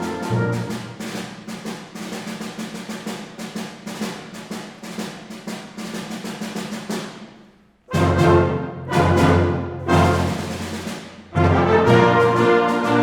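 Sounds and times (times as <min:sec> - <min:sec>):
quick drum strokes: 0:00.0 - 0:13.0.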